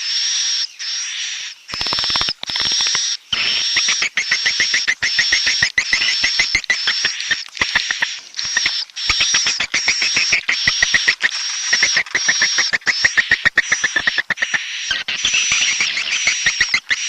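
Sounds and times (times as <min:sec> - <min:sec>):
swiftlet chirping call: 0:01.7 - 0:17.0.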